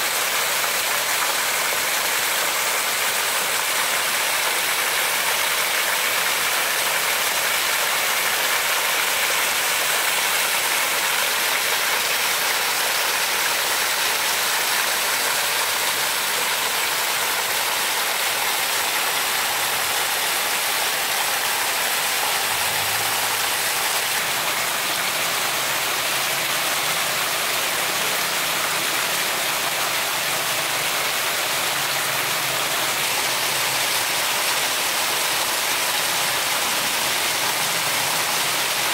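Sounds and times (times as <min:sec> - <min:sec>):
heavy rain on leaves and grass: 0:00.0 - 0:38.9.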